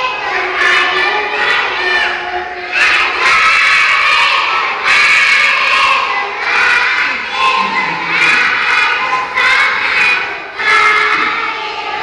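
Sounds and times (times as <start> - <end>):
children chanting loudly: 0.0 - 12.0.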